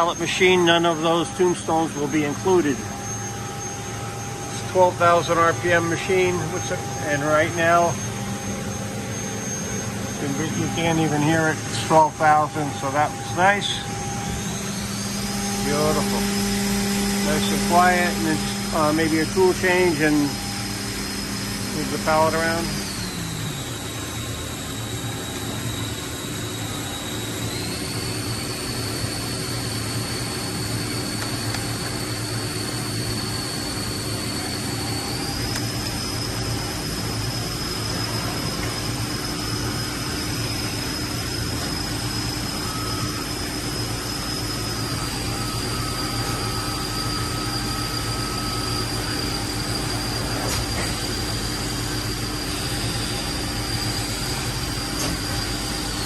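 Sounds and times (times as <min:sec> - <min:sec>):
high machine whine: 0:00.0 - 0:56.0
machine hum and air noise: 0:00.0 - 0:56.0.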